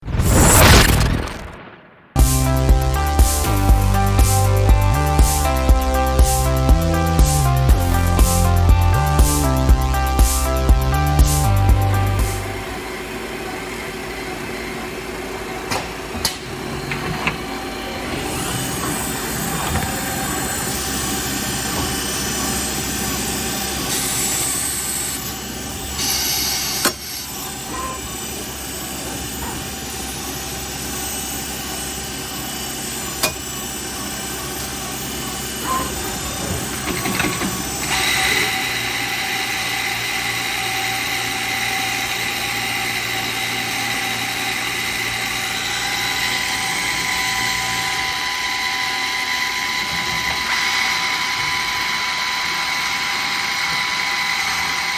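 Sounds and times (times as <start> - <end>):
lathe machine drone: 2.4 - 54.9.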